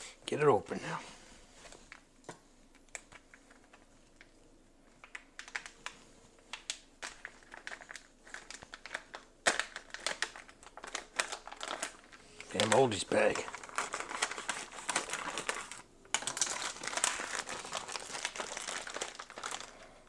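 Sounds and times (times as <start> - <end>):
plastic packaging crinkling: 2.7 - 20.0.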